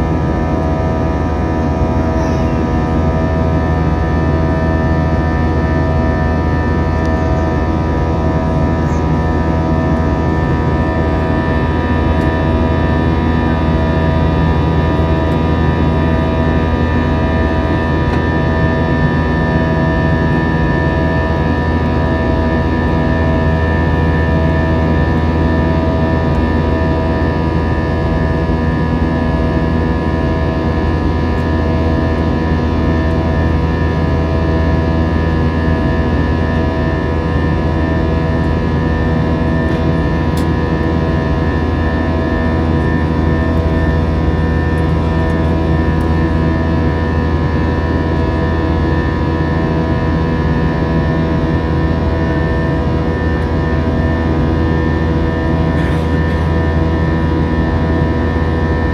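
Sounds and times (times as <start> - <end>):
jet engines rumbling in cabin: 0.0 - 58.9.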